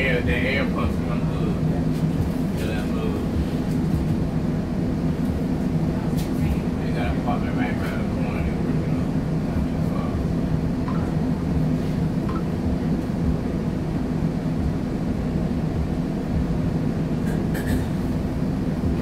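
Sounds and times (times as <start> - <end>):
streetcar equipment humming: 0.0 - 19.0.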